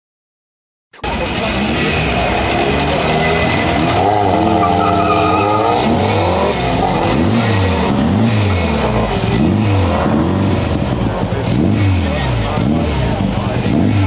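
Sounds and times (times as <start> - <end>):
car engine revving up and down: 1.0 - 14.0
drag cars accelerating: 1.0 - 14.0.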